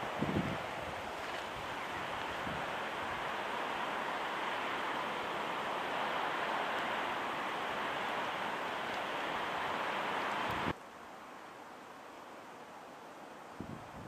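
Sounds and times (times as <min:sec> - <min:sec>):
steady wind blowing: 0:00.0 - 0:14.0.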